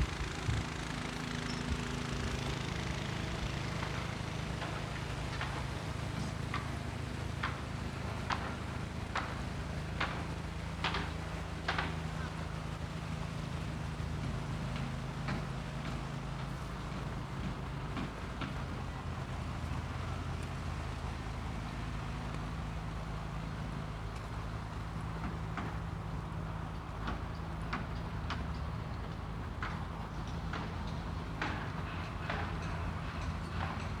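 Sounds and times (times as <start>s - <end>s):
low hum of traffic: 0.0s - 34.0s.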